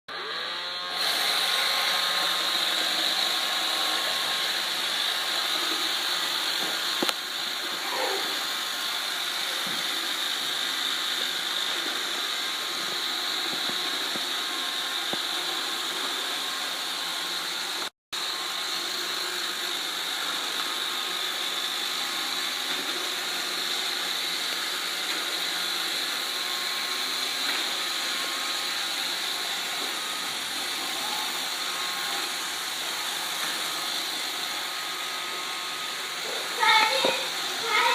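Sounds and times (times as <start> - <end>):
robot vacuum whirring: 0.1 - 37.9.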